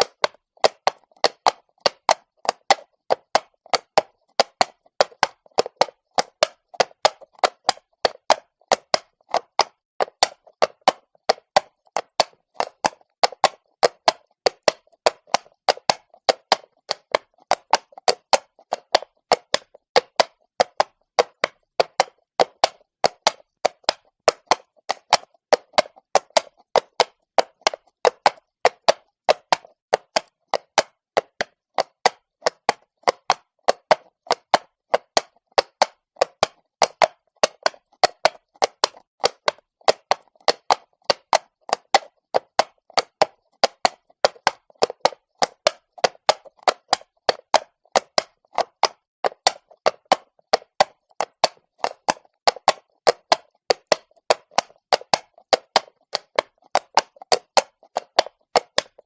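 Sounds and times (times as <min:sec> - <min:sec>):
horse hooves clopping on cobblestones: 0:00.0 - 0:59.0.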